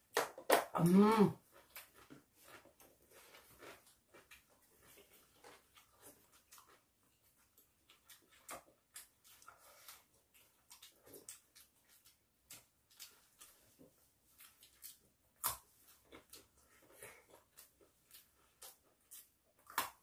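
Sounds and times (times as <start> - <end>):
chewing and lip smacks: 1.5 - 20.0.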